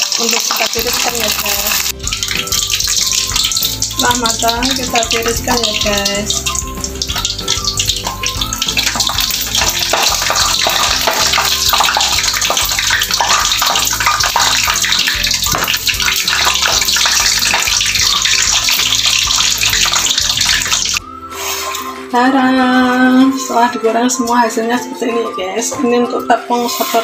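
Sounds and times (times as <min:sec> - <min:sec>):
hot oil sizzling and crackling: 0:00.0 - 0:21.9.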